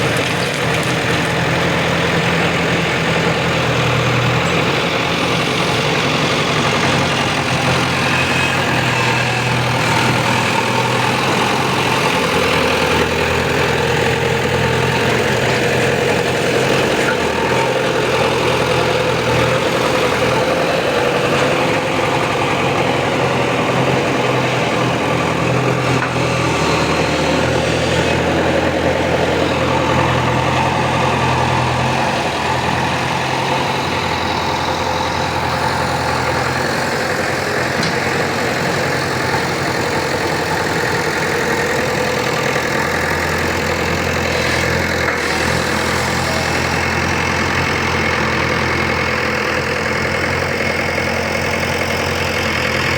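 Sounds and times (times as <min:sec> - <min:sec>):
diesel engine of digging machine: 0:00.0 - 0:52.9.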